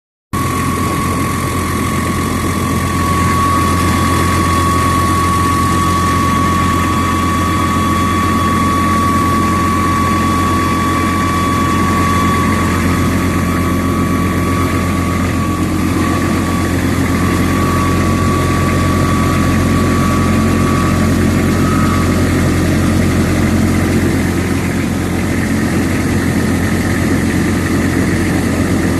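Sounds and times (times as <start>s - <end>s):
thin high-pitched whine: 0.4s - 28.9s
truck engine running: 0.4s - 28.9s.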